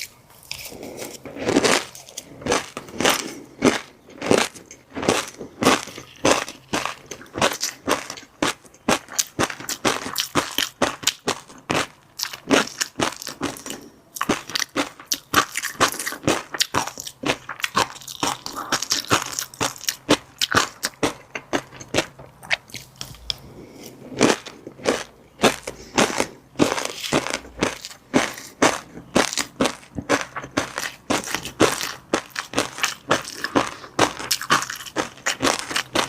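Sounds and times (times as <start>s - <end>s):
close chewing crunches and pops: 0.0s - 36.0s.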